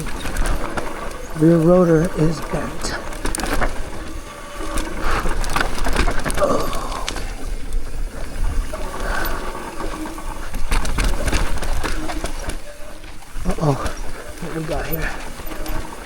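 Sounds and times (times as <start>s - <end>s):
bike rattling and clicking: 0.0s - 16.0s
wind buffeting microphone: 0.0s - 16.0s.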